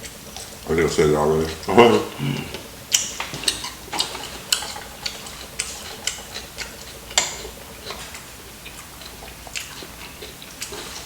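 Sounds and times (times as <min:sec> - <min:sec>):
eating clicks and crunches: 0:00.0 - 0:11.0.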